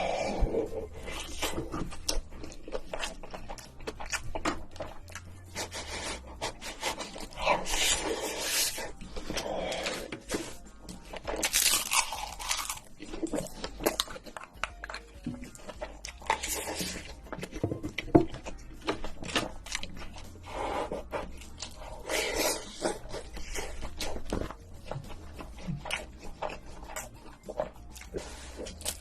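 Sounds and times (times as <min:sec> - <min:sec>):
chewing and crunching: 0:00.0 - 0:29.0.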